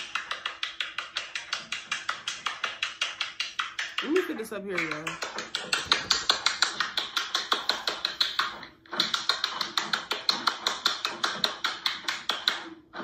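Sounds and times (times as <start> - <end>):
crunching and clicking of eating: 0.0 - 13.0.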